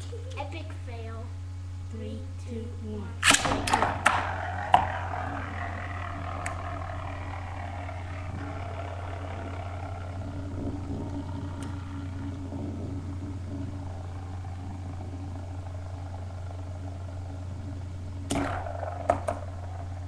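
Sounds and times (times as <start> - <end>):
low hum: 0.0 - 20.0
spinning tops whirring and scraping: 3.3 - 20.0.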